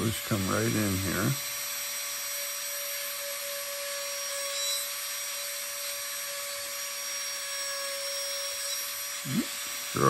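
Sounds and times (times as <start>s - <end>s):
micro grinder whine: 0.0s - 10.0s.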